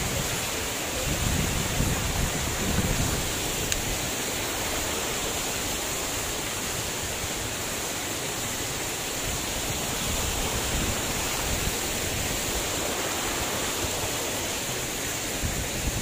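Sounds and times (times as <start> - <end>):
waterfall rushing onto rocks: 0.0 - 16.0.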